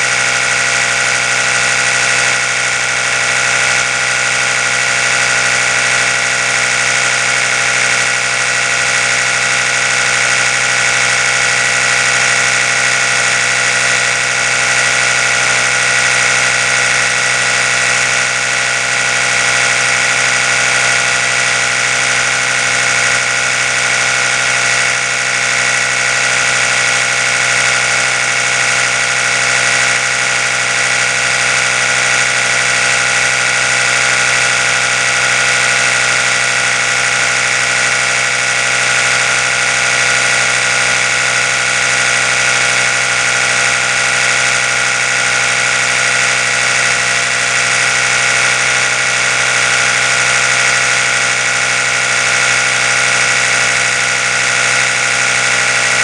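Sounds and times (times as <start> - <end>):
electric toothbrush buzzing: 0.0 - 56.0.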